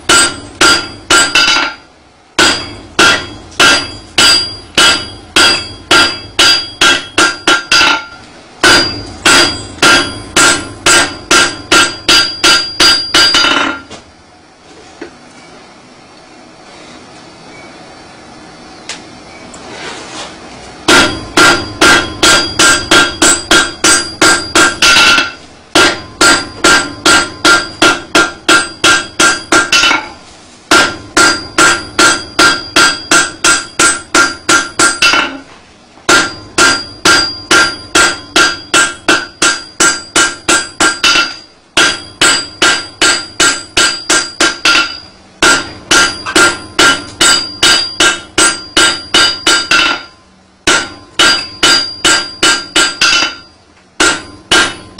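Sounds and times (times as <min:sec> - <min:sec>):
hammer striking metal on anvil: 0:00.0 - 0:14.0, 0:20.8 - 0:35.5, 0:36.1 - 0:54.9.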